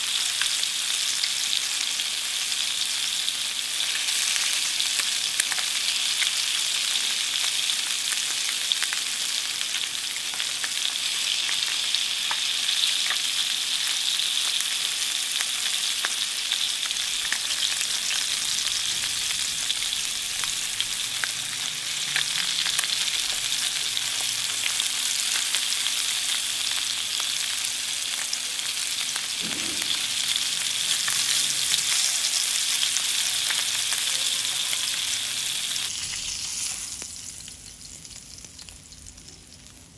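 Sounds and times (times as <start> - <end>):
fish frying in oil: 0.0 - 39.9.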